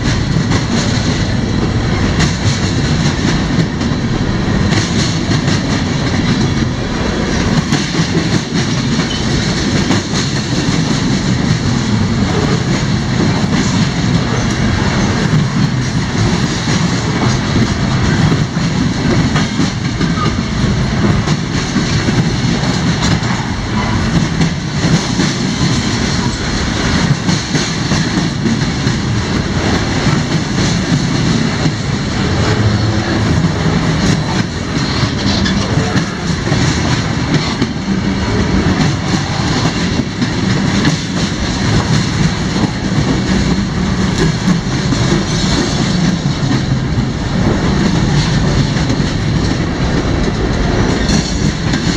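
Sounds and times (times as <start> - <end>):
freight train rolling by: 0.0 - 51.9
wheels clacking over rail joints: 0.0 - 51.9.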